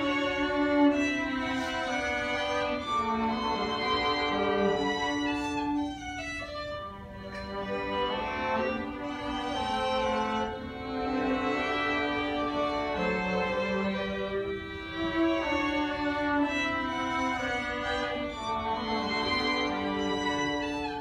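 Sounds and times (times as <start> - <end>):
string quartet playing: 0.0 - 21.0.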